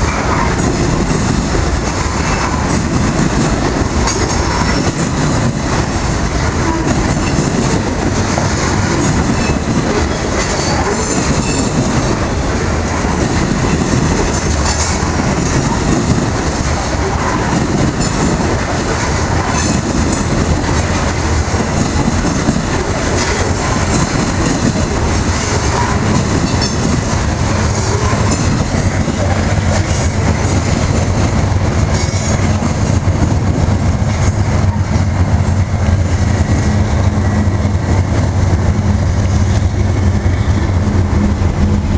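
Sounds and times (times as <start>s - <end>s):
clickety-clack over rail joints: 0.0s - 41.9s
train wheels rumbling on rails: 0.0s - 41.9s.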